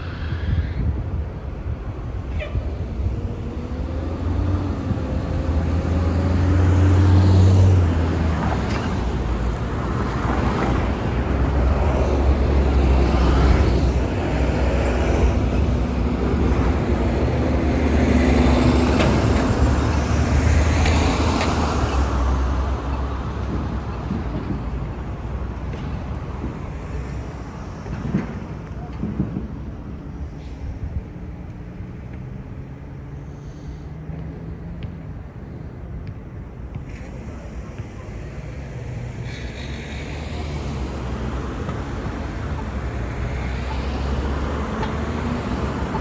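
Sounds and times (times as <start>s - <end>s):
heavy engines running low: 0.0s - 46.0s
road traffic passing: 0.0s - 46.0s.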